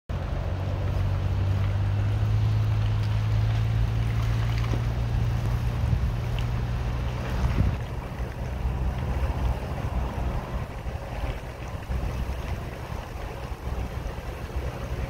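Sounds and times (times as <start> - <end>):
low engine hum: 0.1 - 15.0
tyre road noise: 0.1 - 15.0.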